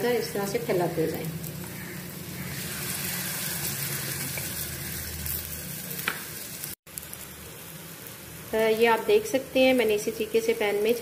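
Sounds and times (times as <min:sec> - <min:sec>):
batter sizzling in oil: 0:00.0 - 0:11.0.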